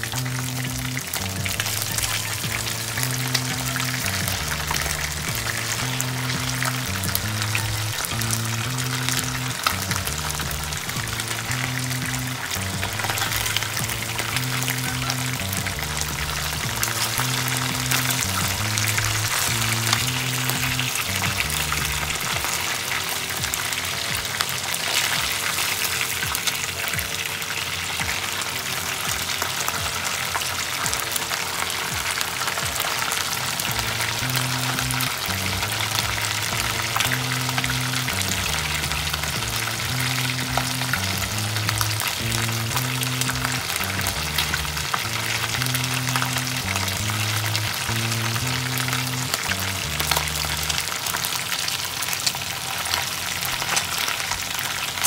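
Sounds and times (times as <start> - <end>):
background music with bass line: 0.0 - 51.4
chicken sizzling in hot oil: 0.0 - 55.0.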